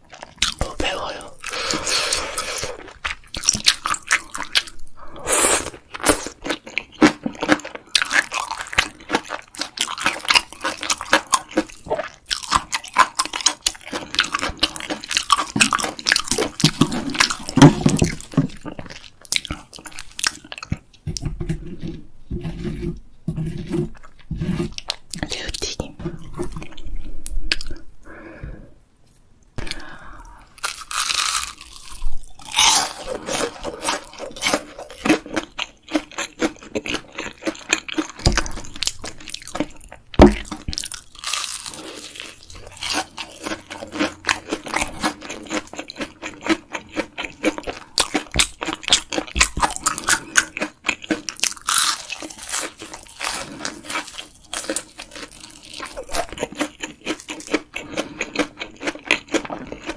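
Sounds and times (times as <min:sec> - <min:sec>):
crunching and chewing fried shrimp: 0:00.0 - 0:04.8, 0:05.4 - 0:21.0, 0:29.6 - 0:59.9.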